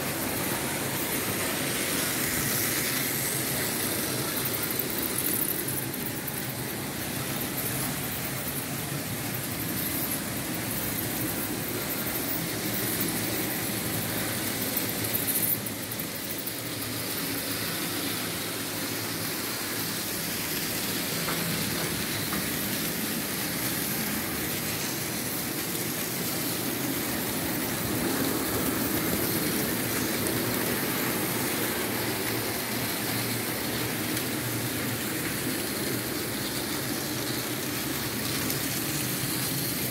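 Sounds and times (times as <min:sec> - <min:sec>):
electric model train motors whirring: 0:00.0 - 0:39.9
wheels on metal track: 0:00.0 - 0:39.9.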